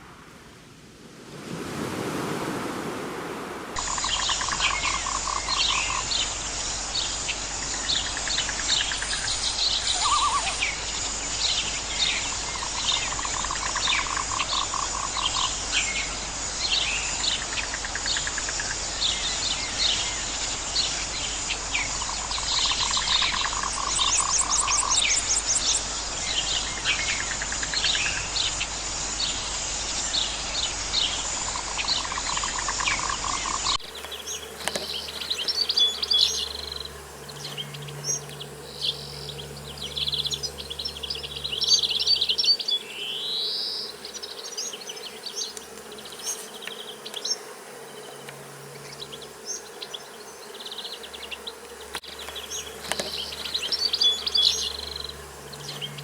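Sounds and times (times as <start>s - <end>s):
low insect-like buzz: 0.0s - 56.0s
small birds chirping and trilling: 3.8s - 56.0s.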